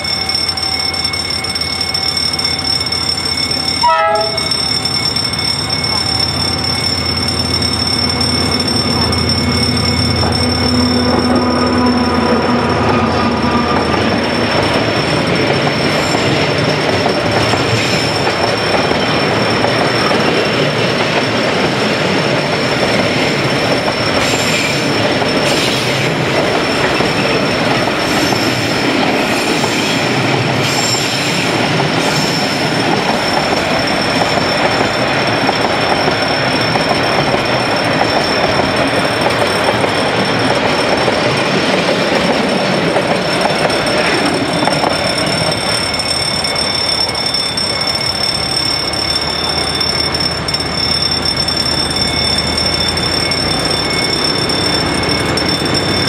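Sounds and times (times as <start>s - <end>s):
freight train wheels clattering on rail: 0.0s - 56.0s
high wheel squeals: 0.0s - 56.0s.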